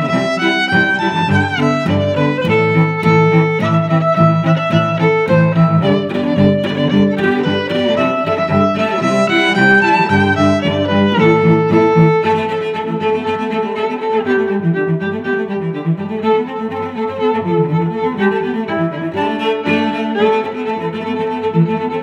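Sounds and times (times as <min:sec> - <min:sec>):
bowed strings playing held notes: 0:00.0 - 0:22.0.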